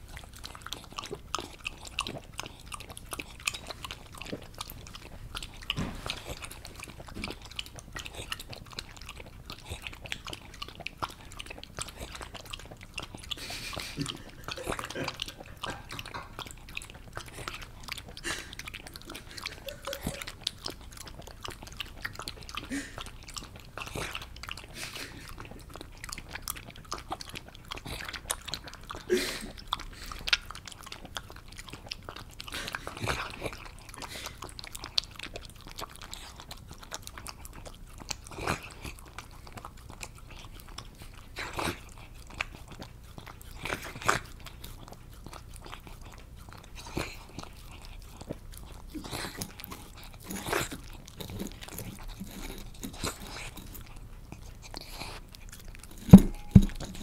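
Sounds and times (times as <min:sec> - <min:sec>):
dog drinking slurping: 0:00.0 - 0:57.0.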